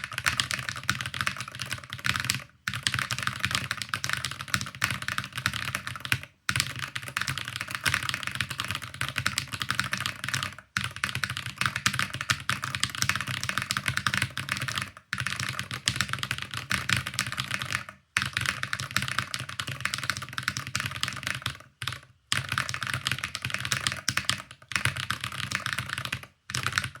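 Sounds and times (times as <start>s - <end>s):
fast keyboard typing: 0.0s - 27.0s.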